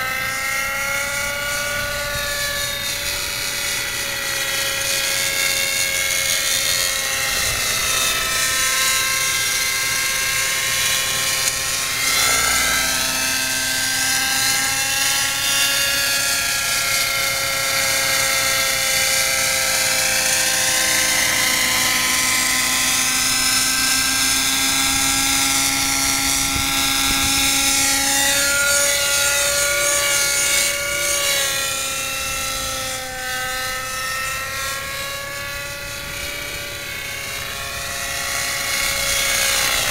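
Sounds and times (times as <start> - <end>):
model helicopter engine whine: 0.0 - 39.9.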